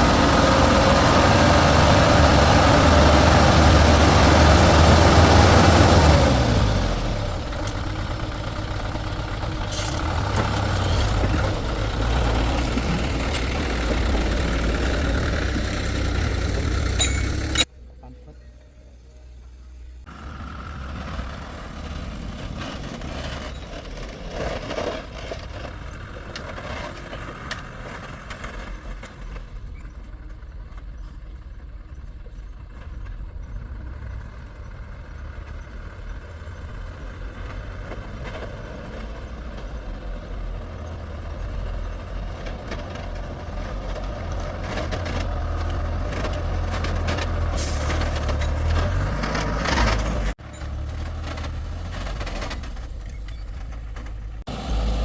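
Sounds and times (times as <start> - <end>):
heavy vehicle engine rumbling: 0.0 - 55.0.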